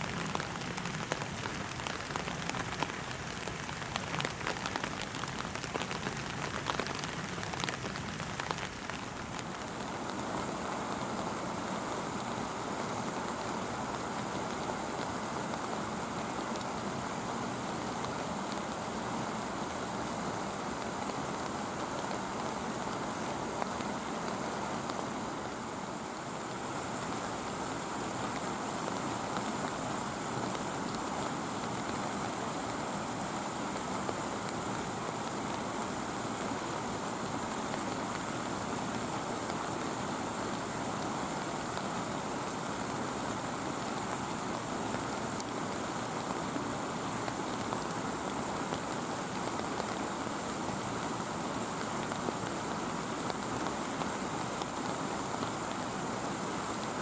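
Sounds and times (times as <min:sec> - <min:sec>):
steady ambient hiss: 0:00.0 - 0:57.0.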